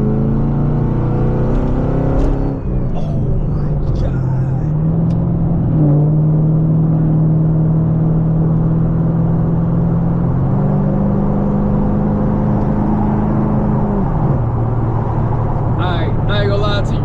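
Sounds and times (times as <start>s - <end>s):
car engine droning at full throttle: 0.0s - 17.0s.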